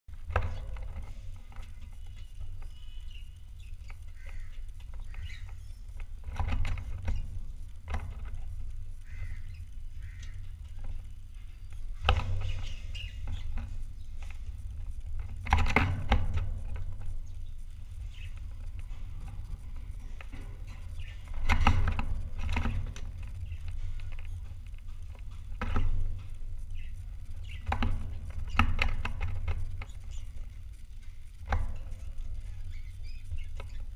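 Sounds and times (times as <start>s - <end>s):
sharp clicks and knocks: 0.1s - 33.9s
steady low rumble: 0.1s - 33.9s.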